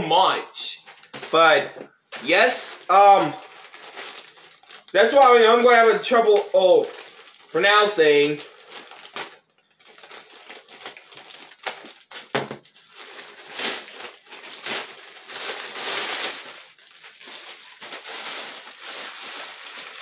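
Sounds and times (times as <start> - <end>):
plastic bag crinkling: 0.8 - 20.0.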